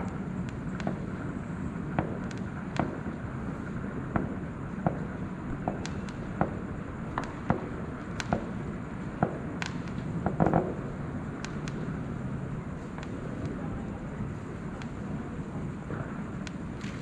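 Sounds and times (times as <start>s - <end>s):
background rumble: 0.0s - 17.0s
fireworks cracking and popping: 0.0s - 17.0s.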